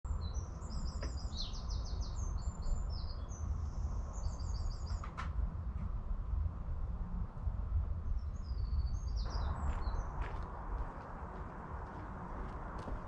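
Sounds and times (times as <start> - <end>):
songbirds singing and chirping: 0.1 - 5.9, 7.4 - 13.0
steady low rumble: 0.1 - 13.0.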